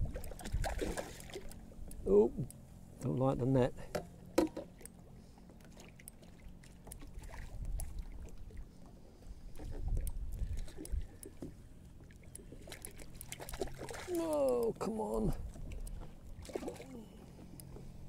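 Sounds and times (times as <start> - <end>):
water splashing and sloshing: 0.0 - 2.1, 3.8 - 18.0.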